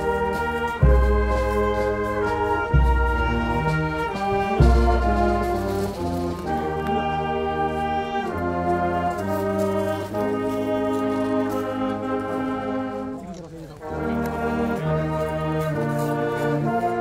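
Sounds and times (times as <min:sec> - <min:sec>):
brass band playing slow chords: 0:00.0 - 0:17.0.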